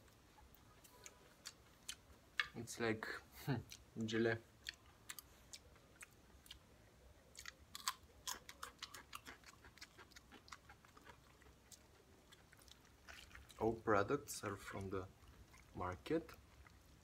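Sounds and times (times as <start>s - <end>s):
chewing crunchy salad: 0.0s - 2.6s, 3.3s - 17.0s.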